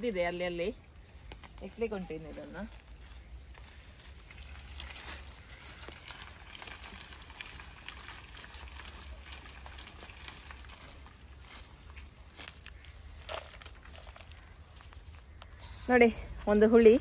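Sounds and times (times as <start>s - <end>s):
dry leaves crackling: 0.0s - 15.8s.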